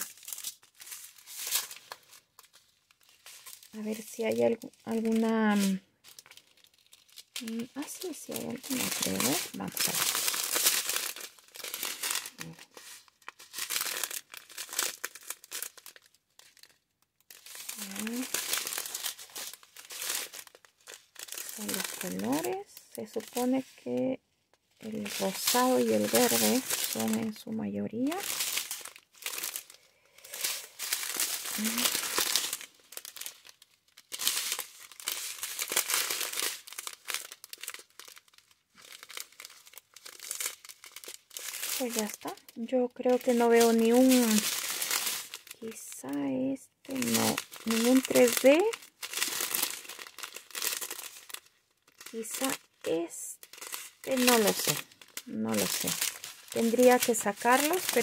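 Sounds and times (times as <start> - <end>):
plastic bags crinkling: 0.0 - 58.0.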